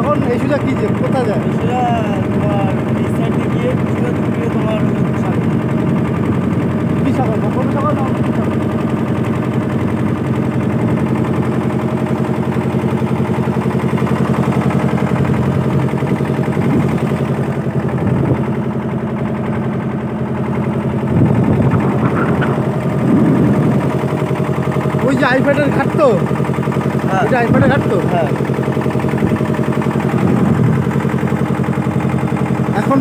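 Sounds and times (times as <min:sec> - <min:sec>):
motorboat engine chugging: 0:00.0 - 0:33.0.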